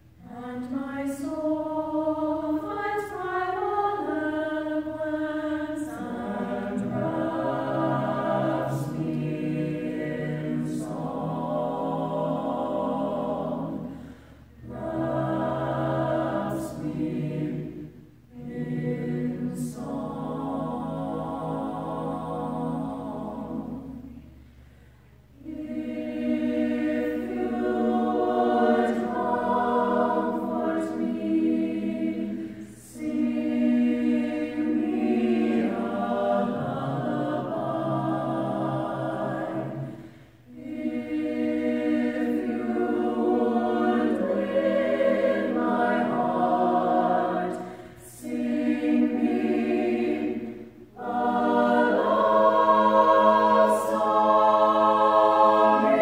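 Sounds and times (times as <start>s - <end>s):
choir singing a cappella: 0.0s - 56.0s.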